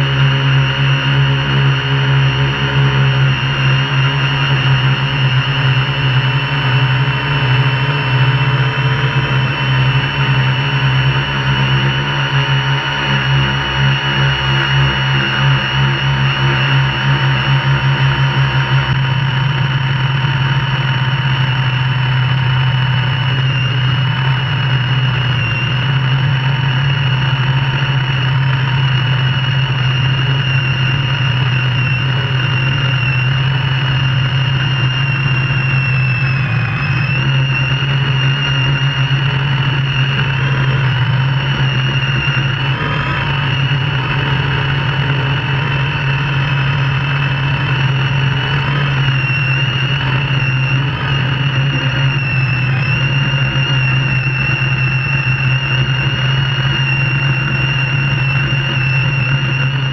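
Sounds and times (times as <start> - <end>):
drone motors and propellers humming: 0.0 - 59.9.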